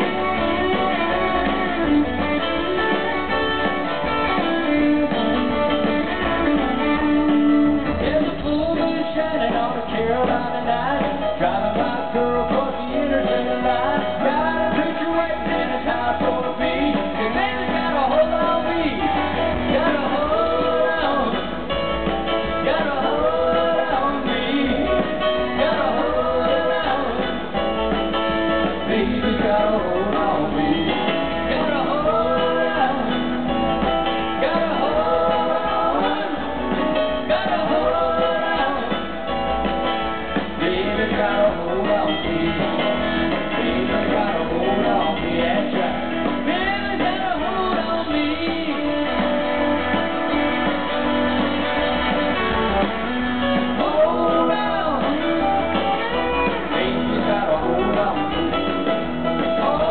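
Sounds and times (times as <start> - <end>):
man singing: 0.0 - 50.6, 52.4 - 59.9
country-rock band: 0.0 - 59.9.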